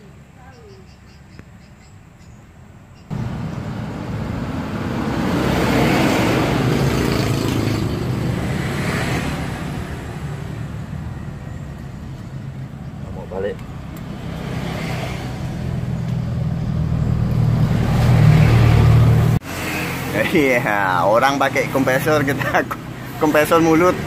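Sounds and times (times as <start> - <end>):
engine running: 3.1 - 24.0.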